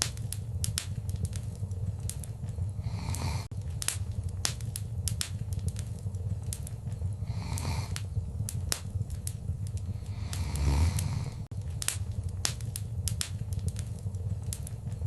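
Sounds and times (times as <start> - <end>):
fire popping and snapping: 0.0 - 15.0
low rumble of flame: 0.0 - 15.0
wood fire crackling: 0.0 - 15.0.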